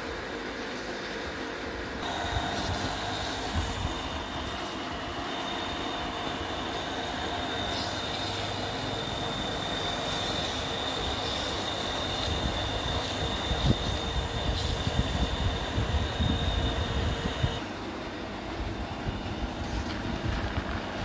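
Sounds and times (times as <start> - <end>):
electric motor whine and hum: 1.2 - 21.0.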